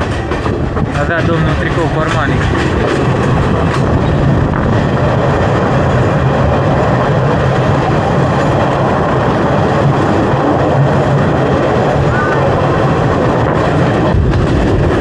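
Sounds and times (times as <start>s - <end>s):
train wheels rumbling and rattling: 0.0s - 15.0s.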